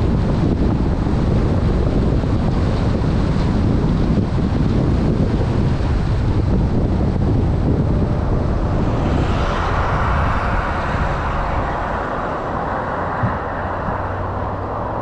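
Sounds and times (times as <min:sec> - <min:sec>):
road rumble: 0:00.0 - 0:15.0
wind noise: 0:00.0 - 0:15.0.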